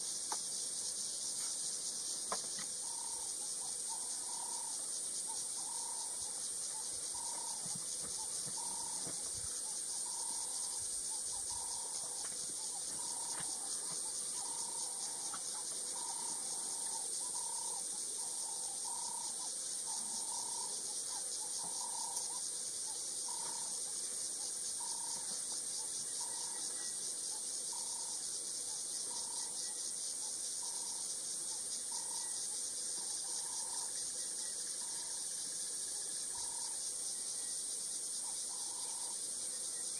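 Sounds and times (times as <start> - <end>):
high-pitched insect chorus: 0.0 - 39.9
short lower insect call: 0.0 - 39.9.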